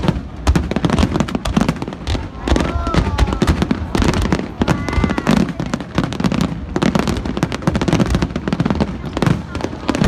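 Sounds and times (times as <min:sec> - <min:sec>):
deep fireworks booms: 0:00.0 - 0:10.0
fireworks bangs and crackles: 0:00.0 - 0:10.0.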